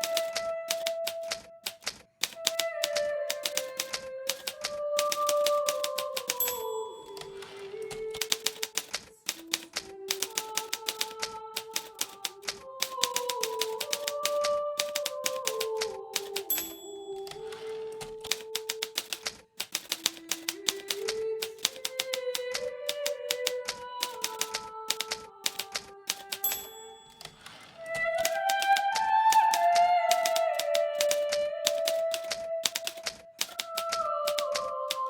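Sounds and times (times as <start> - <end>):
typewriter key strikes: 0.0 - 35.0.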